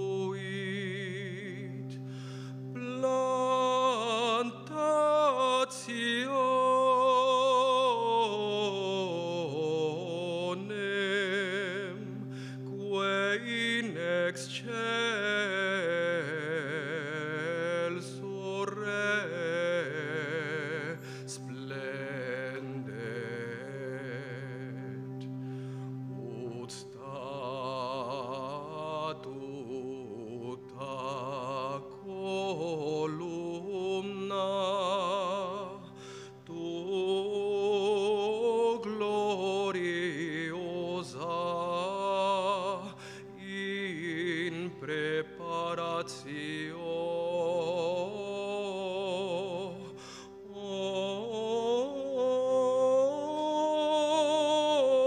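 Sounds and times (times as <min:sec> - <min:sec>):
man singing with vibrato: 0:00.0 - 0:25.2, 0:26.1 - 0:55.0.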